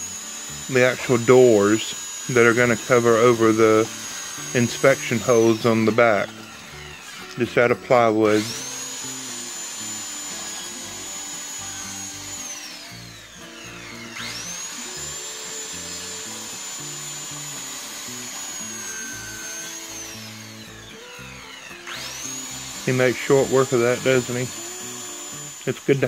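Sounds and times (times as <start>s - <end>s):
background music: 0.0s - 26.0s
circular saw cutting plywood: 0.0s - 26.0s.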